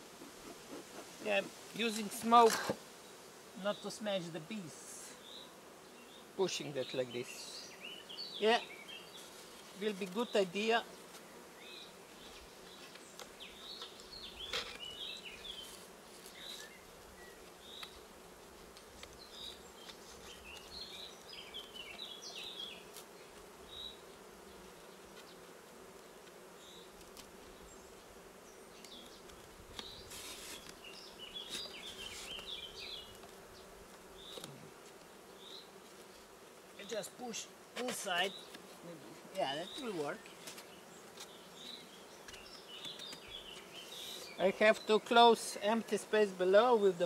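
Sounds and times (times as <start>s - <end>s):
honeybees humming: 0.0s - 47.0s.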